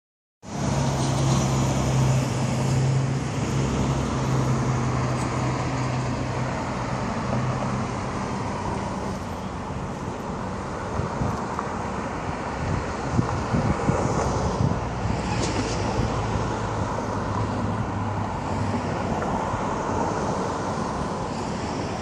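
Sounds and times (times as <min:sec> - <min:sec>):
road traffic noise: 0:00.4 - 0:22.0.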